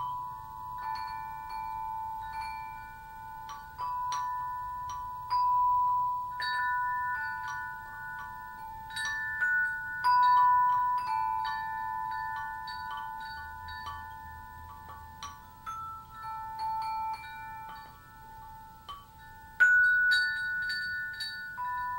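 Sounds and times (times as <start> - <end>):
bell-like chime melody: 0.0 - 21.9
long held tones: 0.0 - 21.9.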